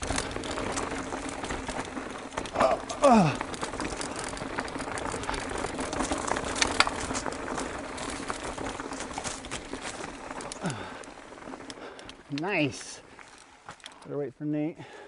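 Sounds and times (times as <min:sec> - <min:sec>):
tyres grinding over loose rock: 0:00.0 - 0:14.0
bike rattling: 0:00.0 - 0:14.2.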